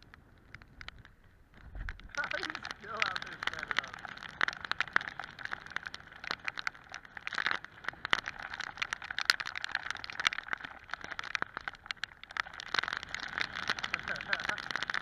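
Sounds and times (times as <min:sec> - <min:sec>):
water drops pattering: 0:01.8 - 0:15.0.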